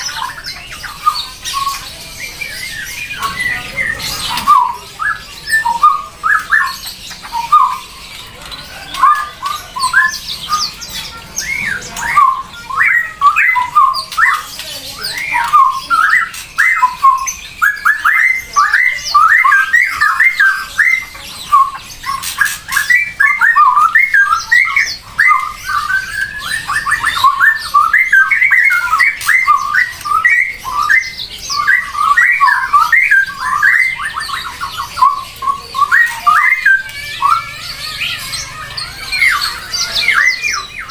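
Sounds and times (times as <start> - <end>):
bird chattering and squawking: 0.0 - 40.9.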